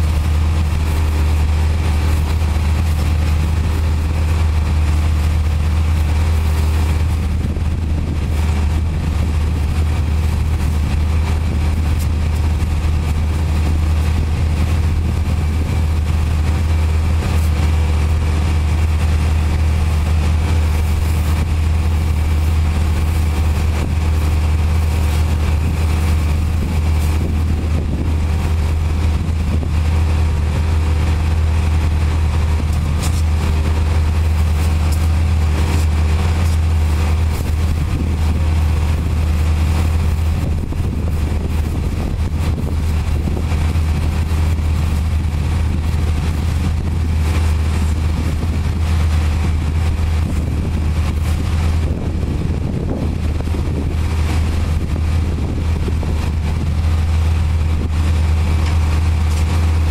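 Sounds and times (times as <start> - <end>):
low machine drone: 0.0 - 59.9
pressure washer spraying water: 0.0 - 59.9.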